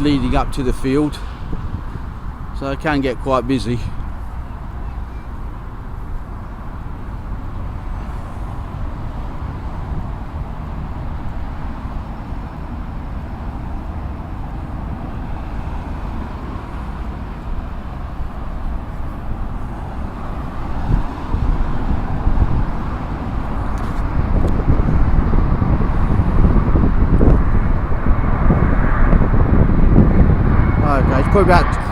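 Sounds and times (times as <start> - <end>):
road traffic rumble: 0.0 - 31.9
wind buffeting microphone: 0.0 - 31.9.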